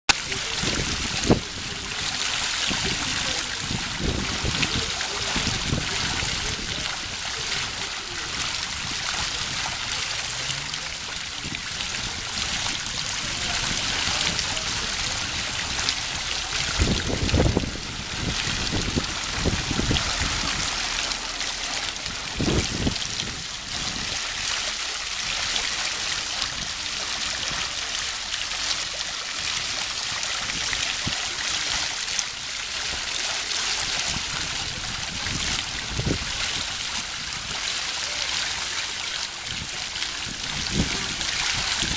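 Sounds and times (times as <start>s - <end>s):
fountain water splashing: 0.1s - 41.9s.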